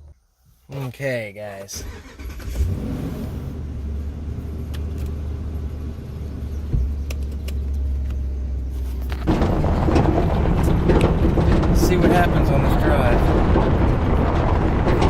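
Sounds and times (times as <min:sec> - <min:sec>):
engine running with low rumble: 0:02.4 - 0:15.0.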